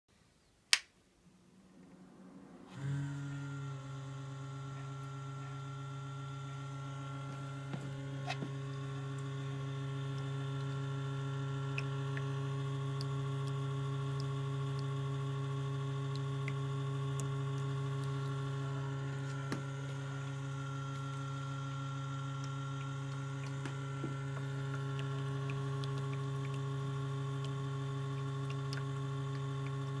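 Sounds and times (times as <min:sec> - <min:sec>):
humidifier electrical buzz: 0:00.6 - 0:30.0.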